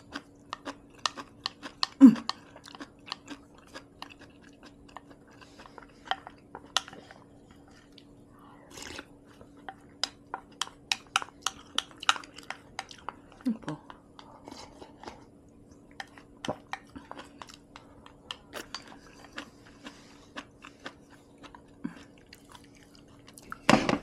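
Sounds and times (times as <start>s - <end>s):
chewing food: 0.0s - 23.8s.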